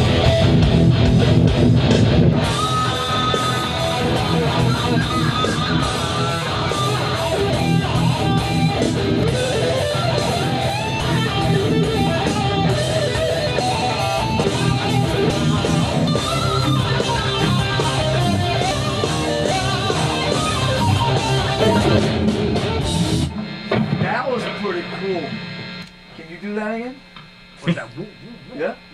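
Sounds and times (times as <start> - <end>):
heavy metal band: 0.0 - 24.9
distorted lead guitar: 0.0 - 28.9.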